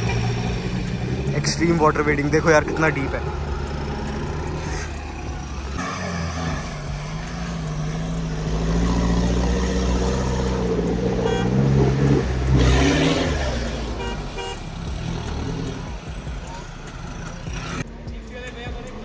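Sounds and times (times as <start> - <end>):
off-road engine revving: 0.0 - 18.0.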